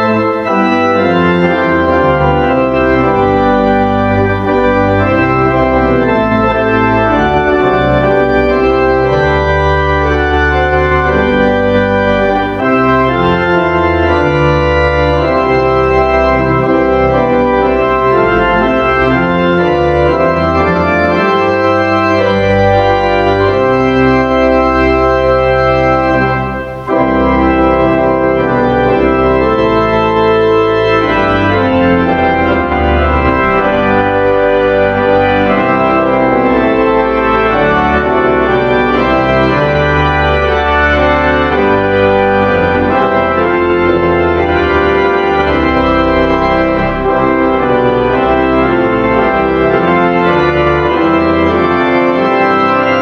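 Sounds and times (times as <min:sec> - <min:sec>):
church organ playing a hymn: 0:00.0 - 0:53.0.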